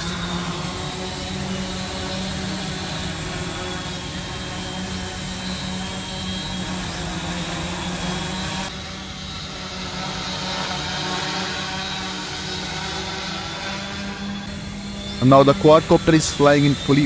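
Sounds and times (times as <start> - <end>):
drone buzzing hum: 0.0 - 17.0.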